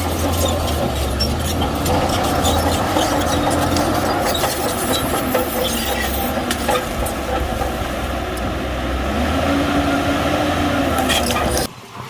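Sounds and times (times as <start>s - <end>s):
bulldozer diesel engine running: 0.0s - 11.7s
steel tracks squeaking: 0.0s - 11.7s.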